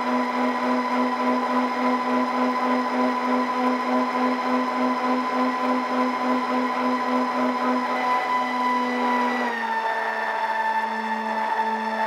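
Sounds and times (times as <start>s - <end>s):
electric motors and propellers whining: 0.0s - 12.0s.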